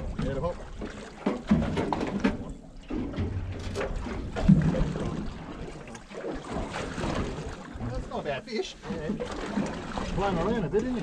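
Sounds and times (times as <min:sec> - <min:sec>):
water sloshing against hull: 0:00.0 - 0:11.0.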